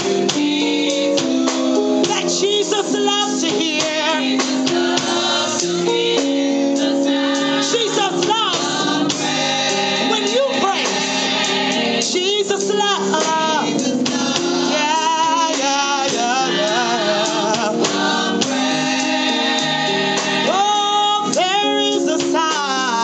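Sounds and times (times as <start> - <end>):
gospel group singing: 0.0 - 23.0
instrumental accompaniment: 0.0 - 23.0.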